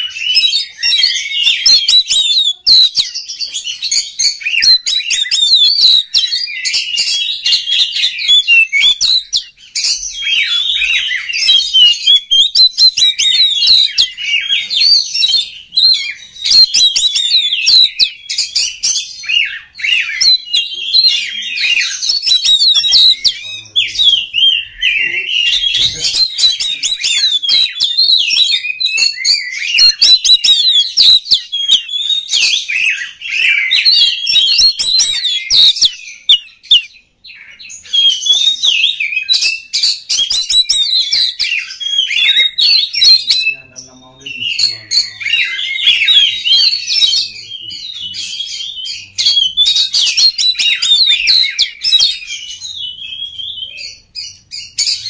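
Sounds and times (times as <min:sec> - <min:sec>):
bird singing whistles and trills: 0:00.0 - 0:55.0.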